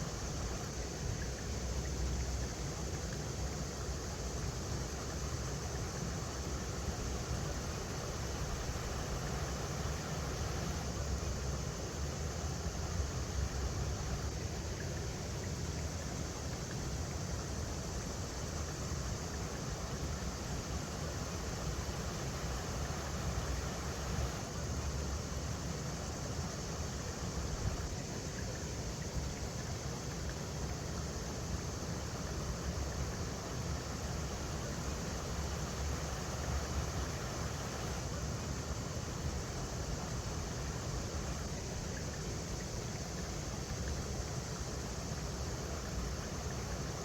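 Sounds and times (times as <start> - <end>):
river water flowing over rocks: 0.0 - 47.0.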